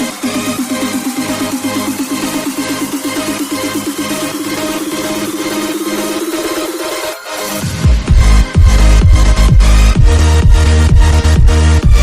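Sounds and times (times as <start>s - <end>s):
pulsing synth line: 0.0s - 10.0s
electronic dance music: 0.0s - 12.0s.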